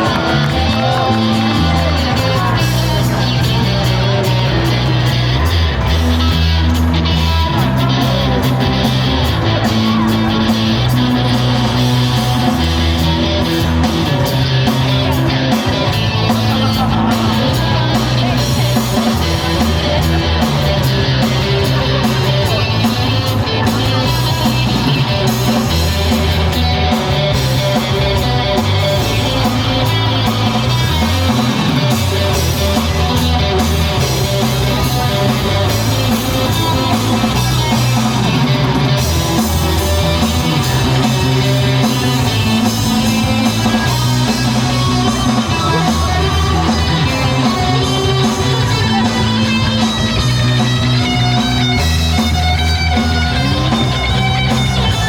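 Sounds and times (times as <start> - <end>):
bass line: 0.0 - 55.0
rock band playing: 0.0 - 55.0.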